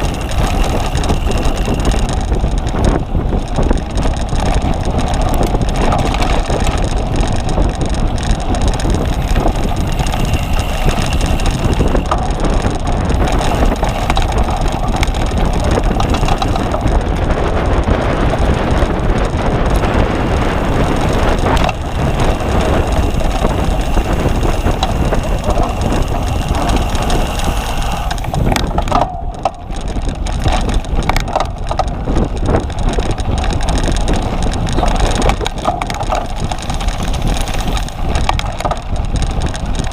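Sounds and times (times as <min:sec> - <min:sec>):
bicycle rattling over rough ground: 0:00.0 - 0:39.9
wind on microphone: 0:00.0 - 0:39.9.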